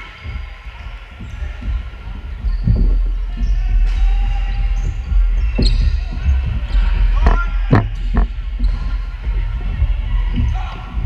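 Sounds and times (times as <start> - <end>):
low thudding rumble: 0.2 - 11.0.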